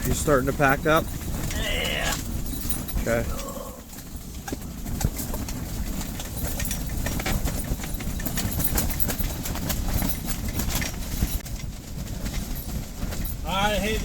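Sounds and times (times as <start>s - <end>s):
small knocks and clatters: 0.0s - 14.0s.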